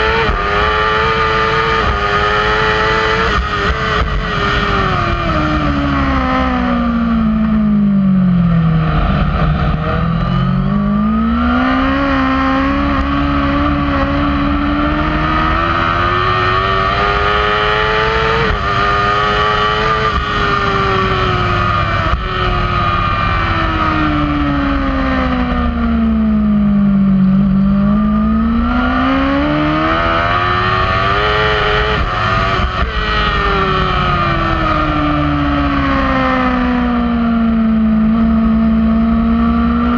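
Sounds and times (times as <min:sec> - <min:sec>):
motorcycle engine at racing revs: 0:00.0 - 0:39.9.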